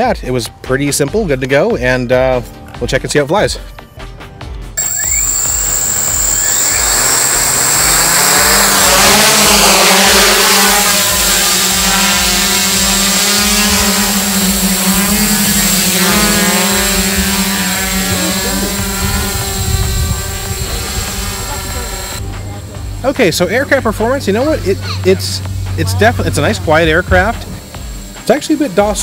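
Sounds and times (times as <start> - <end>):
drone propellers whirring: 4.8 - 29.0.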